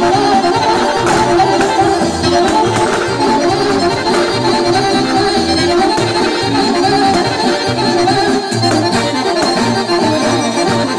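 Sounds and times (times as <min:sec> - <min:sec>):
accordion folk music: 0:00.0 - 0:10.9.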